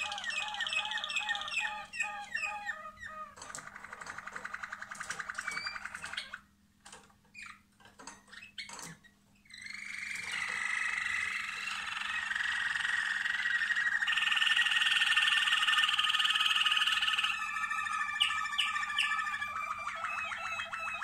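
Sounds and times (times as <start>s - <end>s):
canary trilling song: 0.0s - 6.6s, 7.3s - 21.0s.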